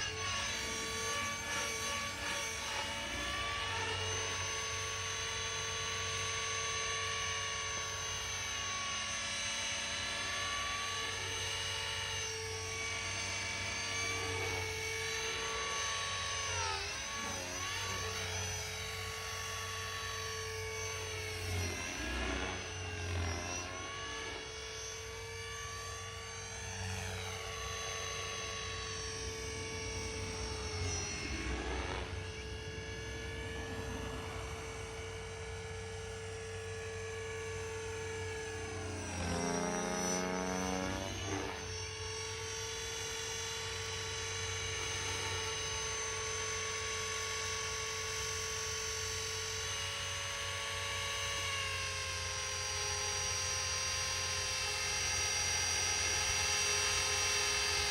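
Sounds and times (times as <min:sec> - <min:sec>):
rc helicopter high whine: 0:00.0 - 0:57.9.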